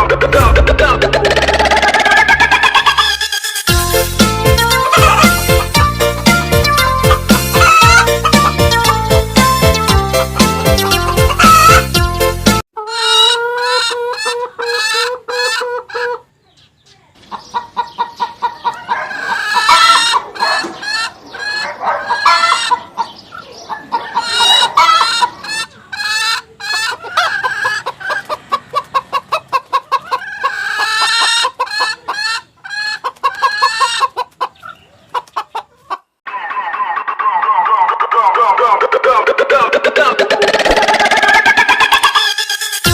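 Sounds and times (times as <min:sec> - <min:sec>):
chickens clucking: 0:00.0 - 0:12.0, 0:12.8 - 0:42.9.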